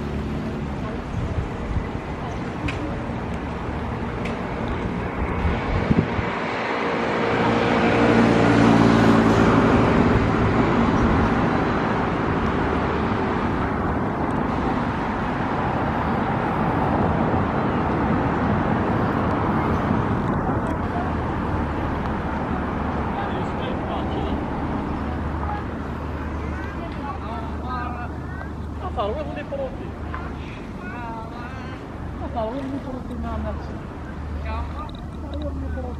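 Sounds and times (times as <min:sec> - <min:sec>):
city traffic noise: 0:00.0 - 0:35.9
engine passing close: 0:00.0 - 0:35.9.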